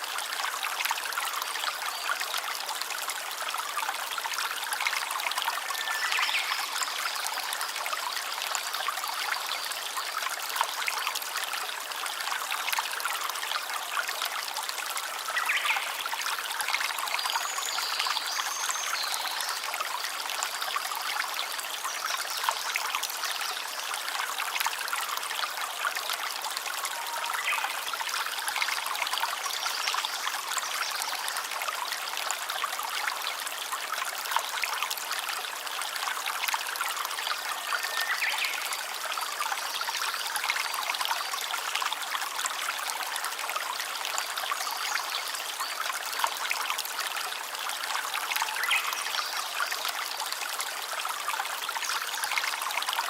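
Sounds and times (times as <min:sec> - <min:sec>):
stream bubbling over stones: 0:00.0 - 0:53.0.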